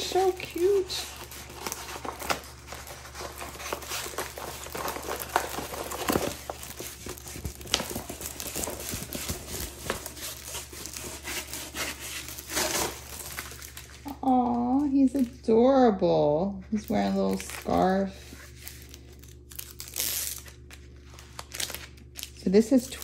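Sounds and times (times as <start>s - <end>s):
plastic cover crinkling: 0.0s - 15.4s, 16.8s - 23.0s.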